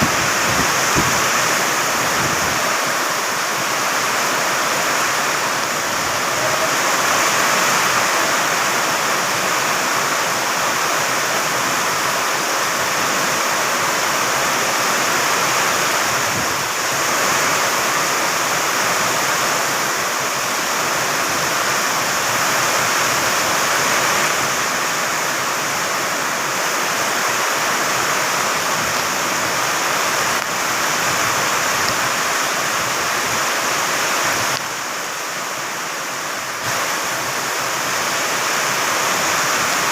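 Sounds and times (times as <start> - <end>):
strong wind: 0.0 - 35.3
heavy rain pouring: 0.0 - 39.9.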